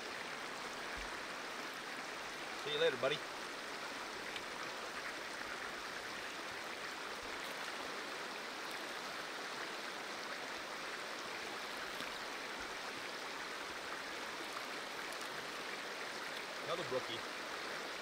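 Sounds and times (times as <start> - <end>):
stream running over stones: 0.0 - 18.0.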